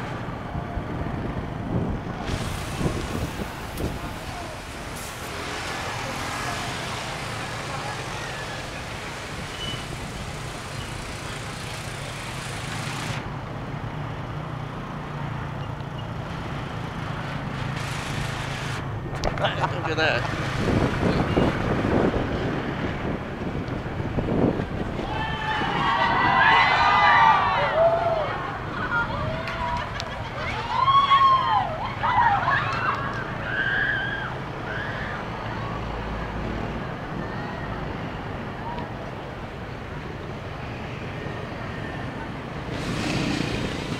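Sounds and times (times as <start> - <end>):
traffic hum and road noise: 0.0 - 43.9.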